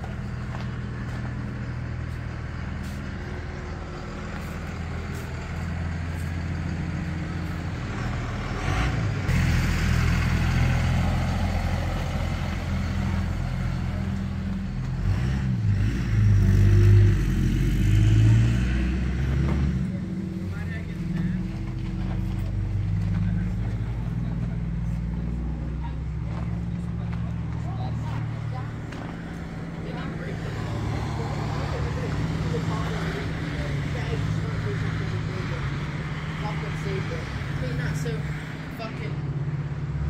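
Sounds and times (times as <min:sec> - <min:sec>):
low engine-like hum: 0:00.0 - 0:40.0.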